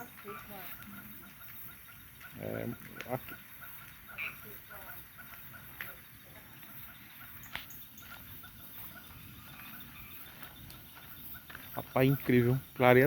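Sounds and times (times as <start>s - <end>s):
bonfire crackling: 0.0s - 13.0s
fire popping: 0.0s - 13.0s
night insects chirping: 0.0s - 13.0s.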